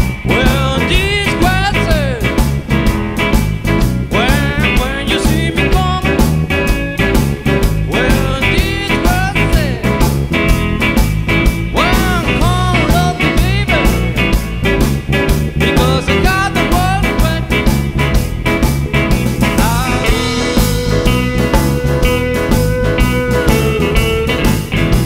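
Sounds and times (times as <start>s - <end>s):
blues band playing: 0.0s - 25.0s
electric guitar bending notes: 0.0s - 25.0s.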